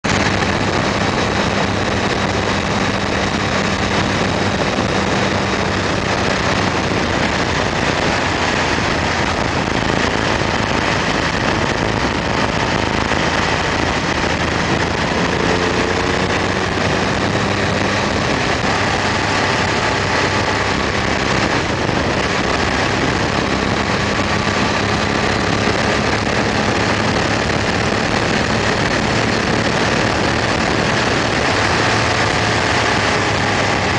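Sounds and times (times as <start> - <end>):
motorcycle engine hum: 0.0 - 33.9
wind and road noise: 0.0 - 33.9.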